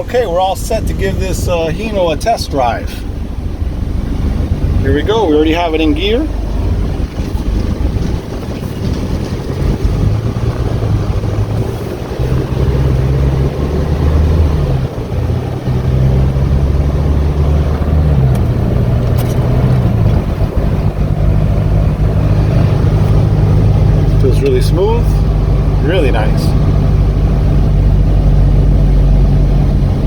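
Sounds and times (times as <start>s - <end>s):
road and tyre noise: 0.0s - 30.0s
truck diesel engine accelerating: 0.0s - 30.0s.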